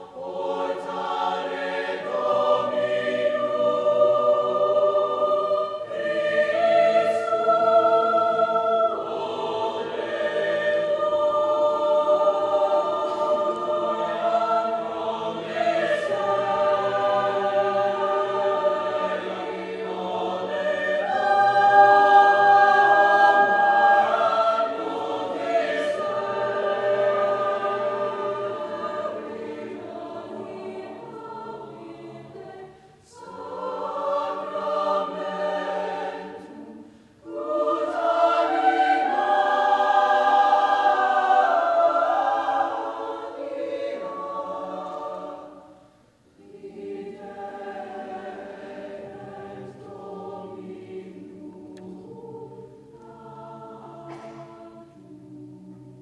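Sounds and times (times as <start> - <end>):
mixed choir singing sacred music: 0.0 - 56.0.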